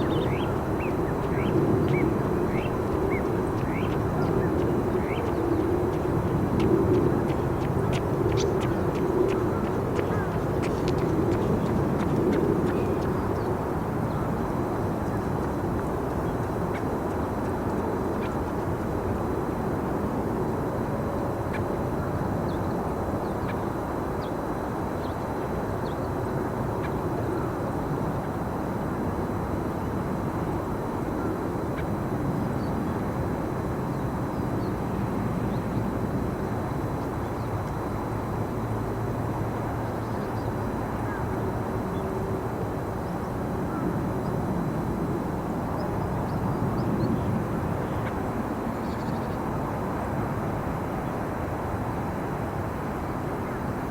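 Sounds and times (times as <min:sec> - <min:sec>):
low outdoor background rumble: 0:00.0 - 0:53.9.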